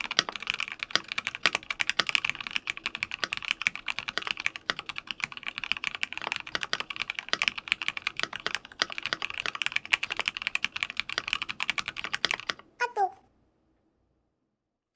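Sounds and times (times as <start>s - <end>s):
mechanical keyboard typing: 0.0s - 12.7s.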